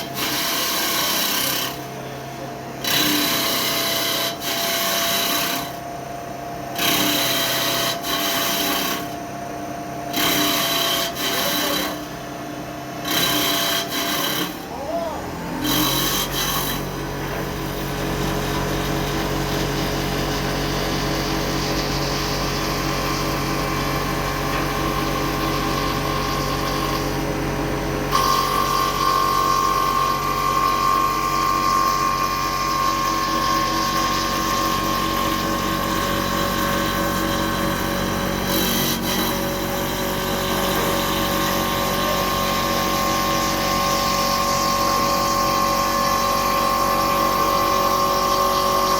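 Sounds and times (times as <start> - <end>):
cutter rasping on wood: 0.0 - 1.8, 2.8 - 5.8, 6.8 - 9.3, 10.1 - 12.2, 12.9 - 48.9
lathe machine hum: 0.0 - 48.9.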